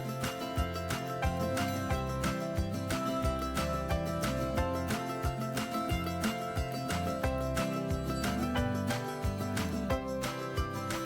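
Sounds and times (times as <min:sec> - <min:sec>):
steady beat: 0:00.0 - 0:11.0
strummed guitar tune: 0:00.0 - 0:11.0.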